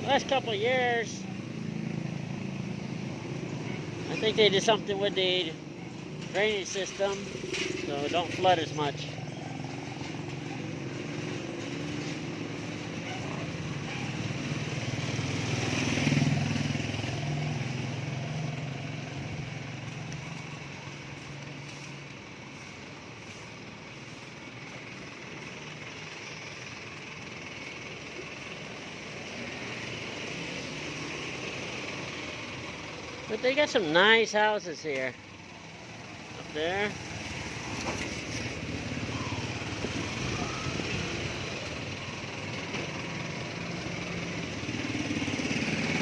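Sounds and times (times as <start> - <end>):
vehicle engine passing by: 0.0 - 34.0, 35.6 - 46.0
low street noise: 0.0 - 46.0.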